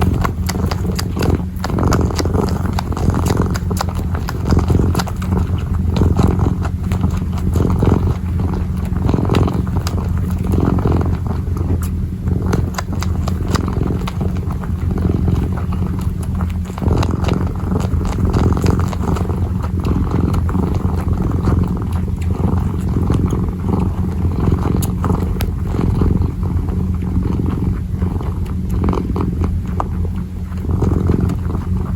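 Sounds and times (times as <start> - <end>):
claws clicking while kneading: 0.0 - 31.9
kitten purring: 0.0 - 31.9.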